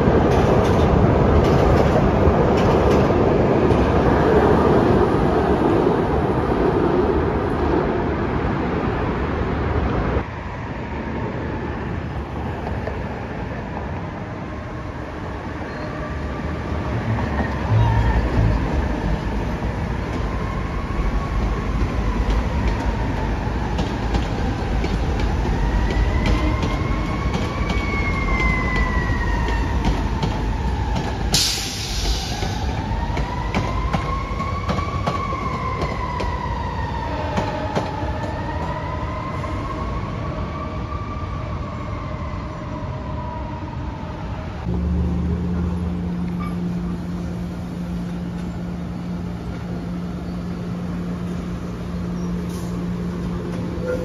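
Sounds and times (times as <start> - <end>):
electric train rumble: 0.0 - 54.0
trolley car hum: 0.0 - 54.0.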